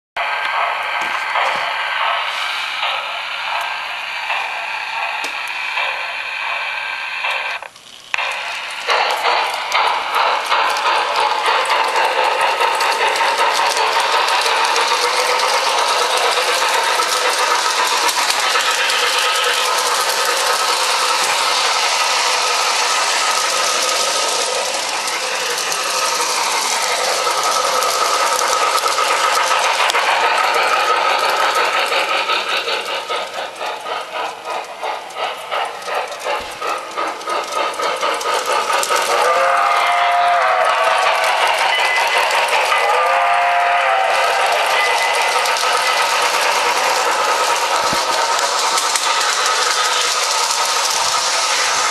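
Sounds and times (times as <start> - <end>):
wheels clicking over rails: 0.2 - 51.9.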